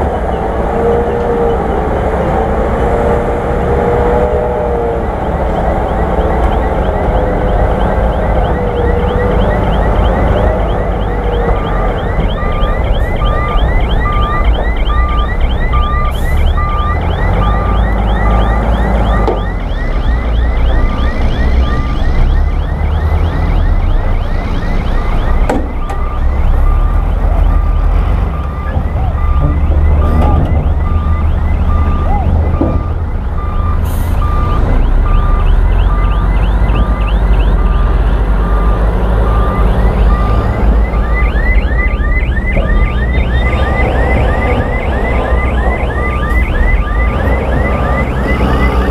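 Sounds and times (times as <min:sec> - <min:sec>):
bulldozer diesel engine rumbling: 0:00.0 - 0:48.9
reversing alarm beeping: 0:00.0 - 0:48.9.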